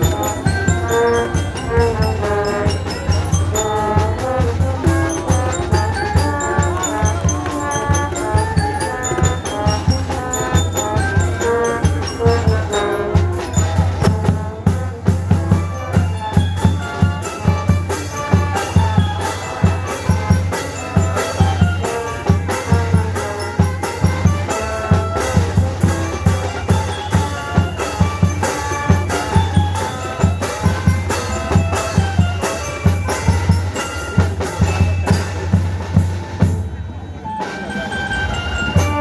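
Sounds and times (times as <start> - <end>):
music with driving drum beat: 0.0 - 36.8.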